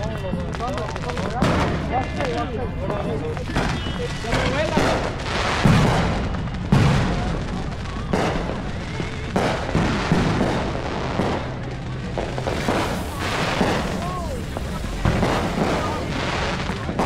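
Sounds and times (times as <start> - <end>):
distant fireworks booms and pops: 0.0 - 17.0
sharp firework bangs: 0.3 - 17.0.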